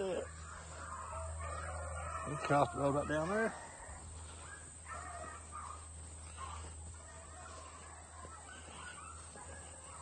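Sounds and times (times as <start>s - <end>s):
hounds baying faintly: 0.0s - 10.0s.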